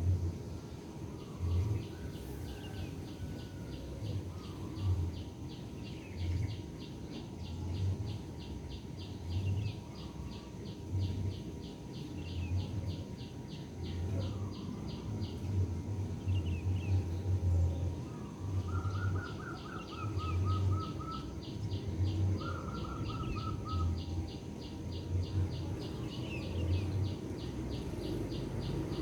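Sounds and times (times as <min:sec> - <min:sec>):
low rumbling background: 0:00.0 - 0:29.0.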